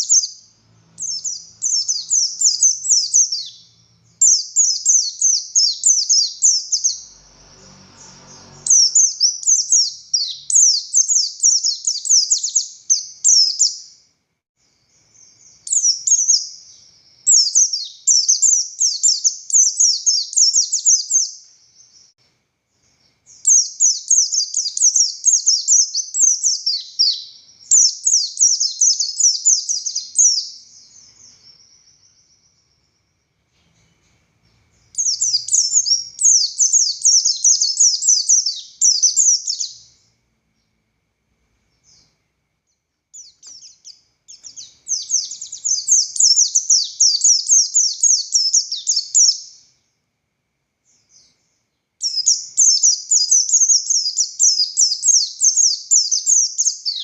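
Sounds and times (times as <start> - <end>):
bird twittering song: 0.0 - 40.8, 41.6 - 50.0, 50.8 - 57.0.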